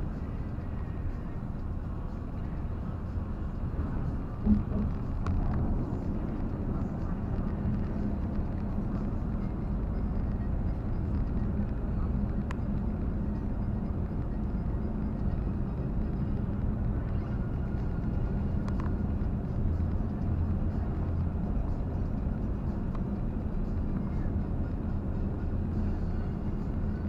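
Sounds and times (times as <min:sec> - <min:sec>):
car engine drone: 0:00.0 - 0:27.0
road noise: 0:00.0 - 0:27.0.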